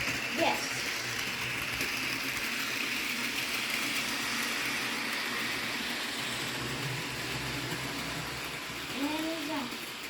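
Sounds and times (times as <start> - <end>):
model train motor whirring: 0.0 - 10.0.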